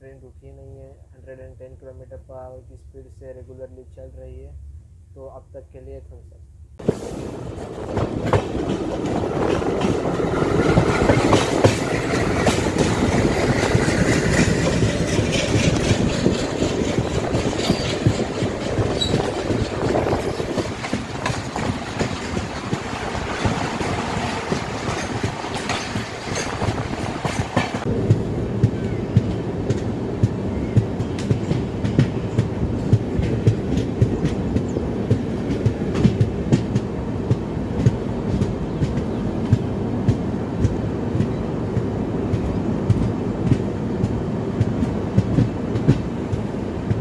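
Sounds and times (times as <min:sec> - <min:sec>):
train rumble and rush: 0:06.7 - 0:47.0
train wheels clattering on rails: 0:06.8 - 0:47.0.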